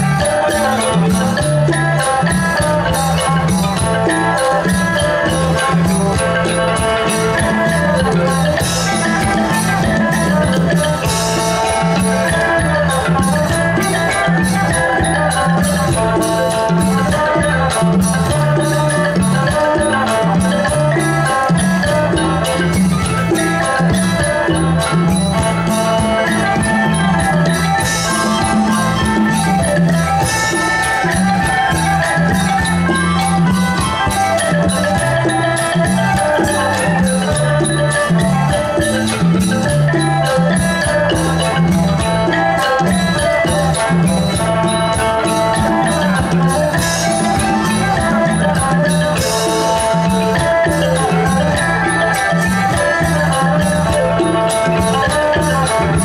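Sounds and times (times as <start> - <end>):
folk band playing: 0.0 - 56.0
steady drum beat: 0.0 - 56.0.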